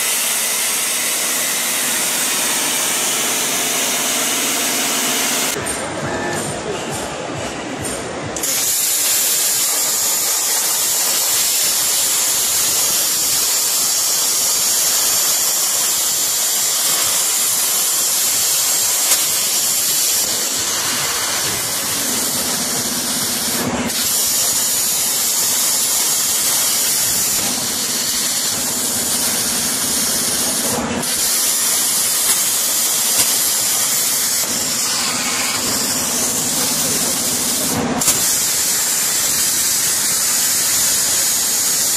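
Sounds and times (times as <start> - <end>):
plasma cutter hissing: 0.0 - 5.7, 8.4 - 41.9.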